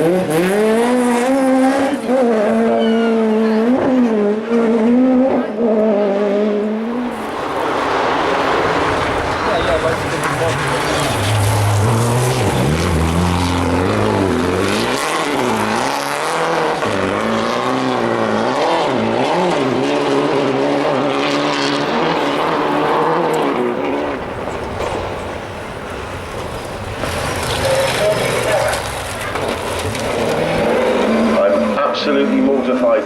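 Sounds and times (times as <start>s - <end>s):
rally car engine revving: 0.0s - 33.0s.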